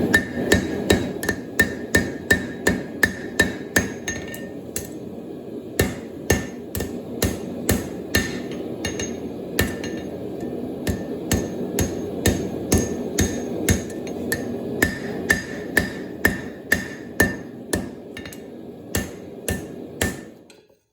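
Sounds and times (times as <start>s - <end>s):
hammer striking steel on anvil: 0.0s - 5.0s, 5.8s - 20.7s.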